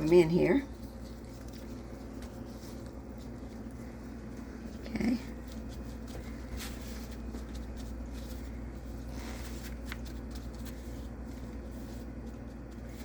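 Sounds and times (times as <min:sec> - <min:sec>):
rustling of food handling: 0:00.0 - 0:13.0
steady low hum: 0:00.0 - 0:13.0.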